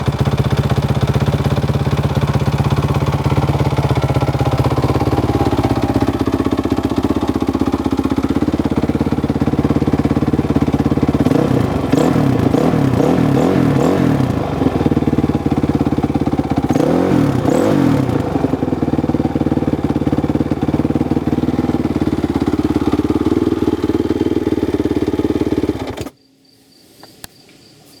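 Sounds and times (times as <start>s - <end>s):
motorcycle engine idling and revving: 0.0s - 26.2s.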